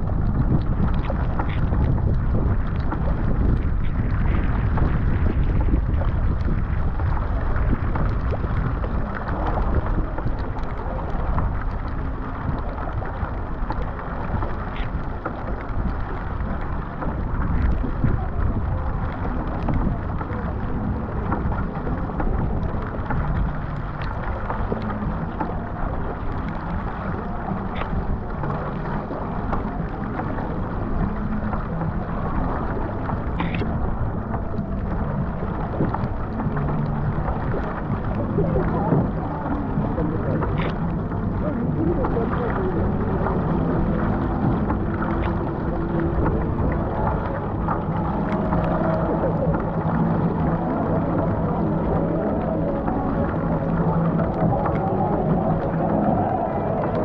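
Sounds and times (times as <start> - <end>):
rain pattering: 0.0 - 57.0
water rushing along hull: 0.0 - 57.0
wind rumble on microphone: 0.0 - 57.0.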